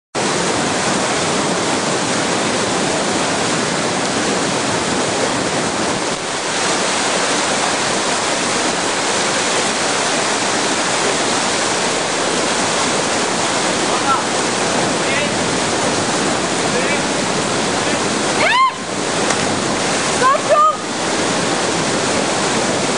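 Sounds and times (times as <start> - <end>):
water rushing over rocks: 0.2 - 22.9.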